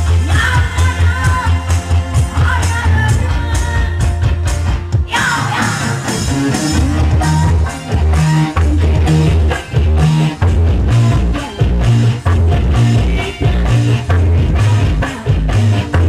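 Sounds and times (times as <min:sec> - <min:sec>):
guitar: 0:00.0 - 0:16.0
loud band music: 0:00.0 - 0:16.0
repeating bass line: 0:00.0 - 0:16.0
steady drum beat: 0:00.0 - 0:16.0.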